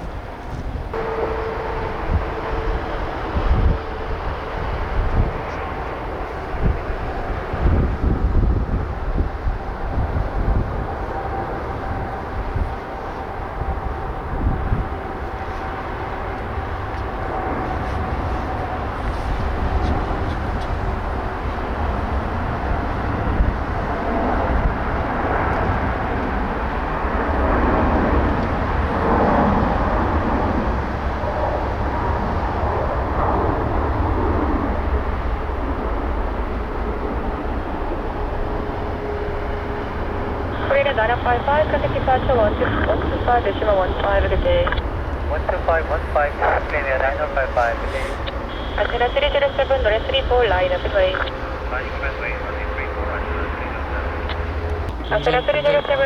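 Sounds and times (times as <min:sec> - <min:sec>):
jet airliner taking off: 0:00.0 - 0:56.0
wind rumble on microphone: 0:00.0 - 0:56.0.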